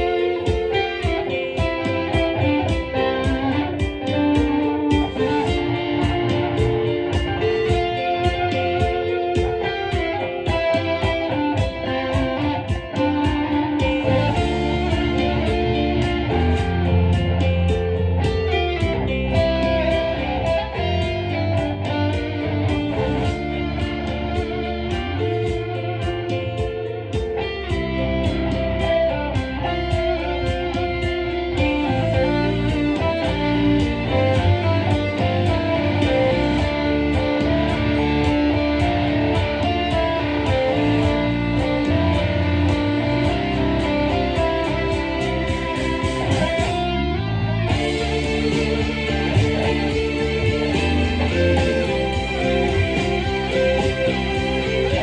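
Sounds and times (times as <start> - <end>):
electric guitar melody: 0.0 - 55.0
low bass notes: 0.0 - 55.0.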